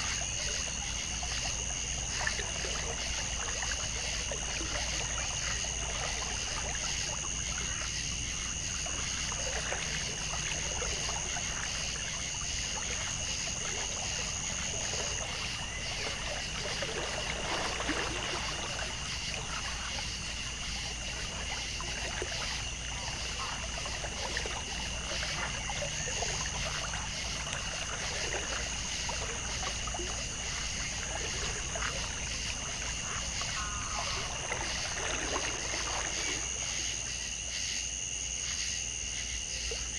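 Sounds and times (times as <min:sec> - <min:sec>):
water trickling: 0:00.0 - 0:37.4
insects chorus high-pitched: 0:00.0 - 0:39.9.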